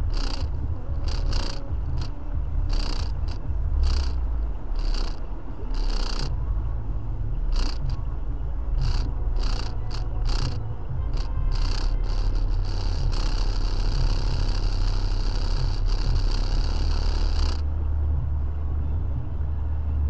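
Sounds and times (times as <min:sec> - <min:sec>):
car cabin low rumble: 0:00.0 - 0:20.0.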